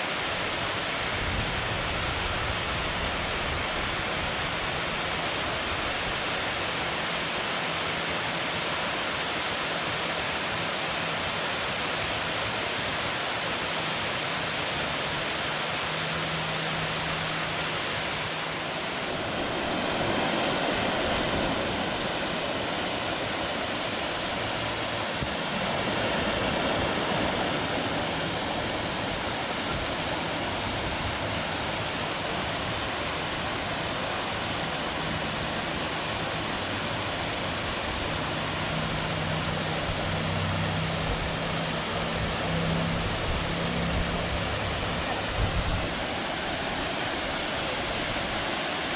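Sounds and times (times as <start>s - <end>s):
water rushing below a dam: 0.0s - 48.9s.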